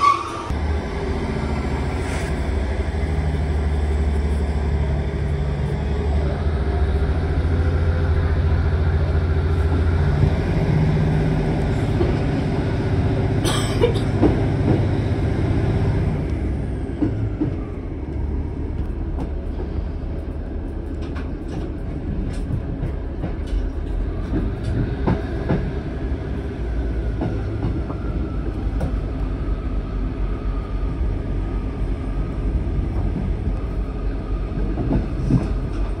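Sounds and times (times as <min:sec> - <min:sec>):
train carriage rumble: 0:00.0 - 0:36.0.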